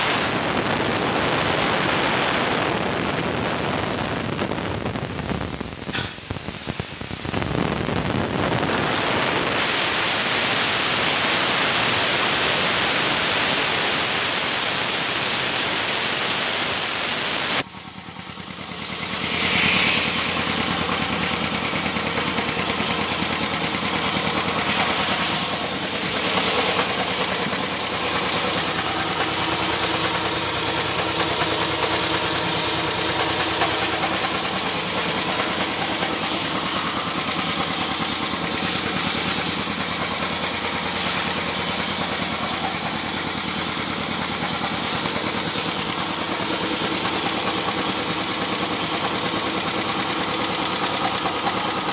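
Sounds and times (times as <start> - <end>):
air compressor chugging: 0.0 - 51.9
compressor hiss: 0.0 - 51.9.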